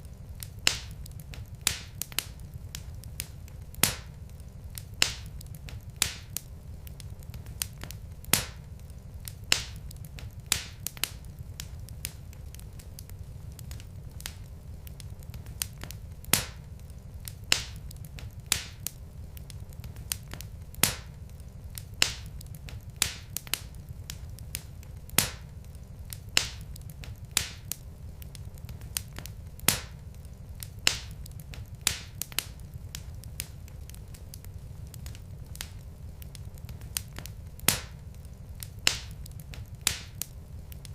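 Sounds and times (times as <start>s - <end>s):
low rumble of burning logs: 0.0s - 40.9s
wood fire crackling: 0.0s - 40.9s.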